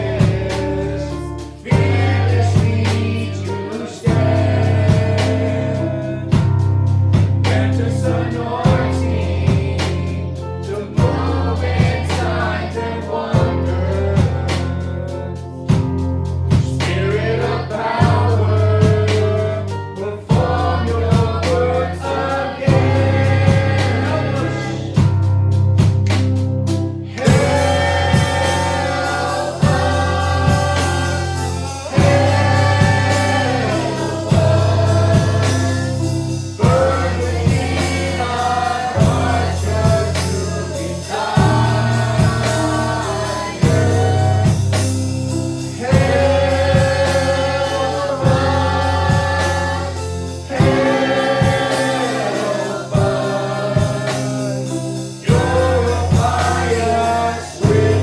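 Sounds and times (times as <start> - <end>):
gospel singing with accompaniment: 0.0 - 58.0.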